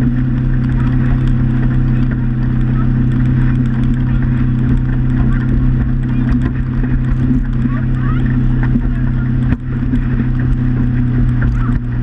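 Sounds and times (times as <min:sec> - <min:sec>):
motorboat engine droning: 0:00.0 - 0:12.0
water splashing: 0:00.0 - 0:12.0.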